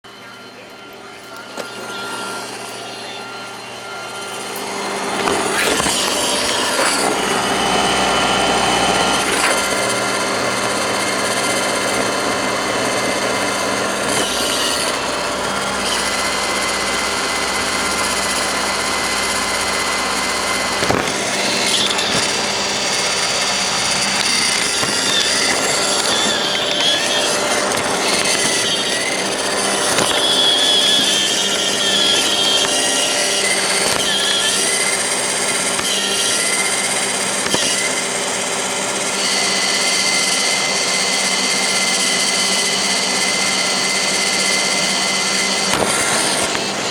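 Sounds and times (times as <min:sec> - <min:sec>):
robot vacuum motor whine: 0:00.1 - 0:46.9.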